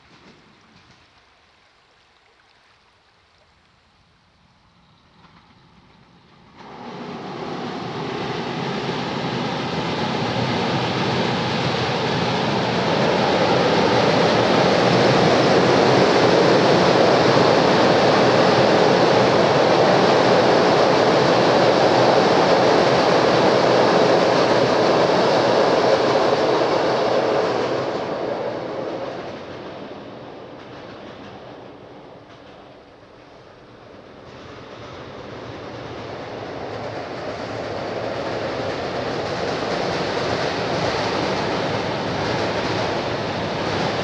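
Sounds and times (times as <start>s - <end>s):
train crossing steel bridge: 0.0s - 1.6s, 4.0s - 44.0s.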